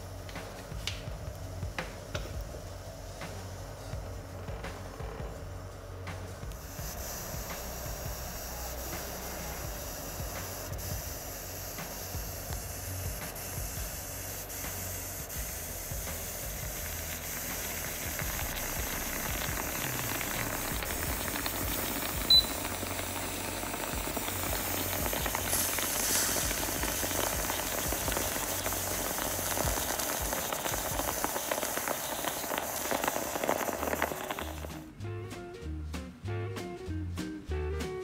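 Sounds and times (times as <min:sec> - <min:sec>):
moka pot hissing and sputtering: 0:00.0 - 0:35.0.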